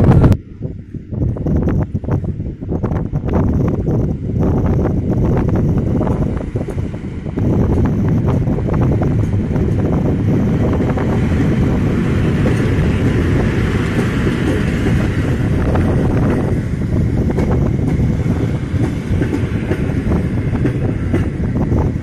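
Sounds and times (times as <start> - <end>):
train rumbling past: 0.0 - 22.0
wind buffeting microphone: 0.0 - 22.0.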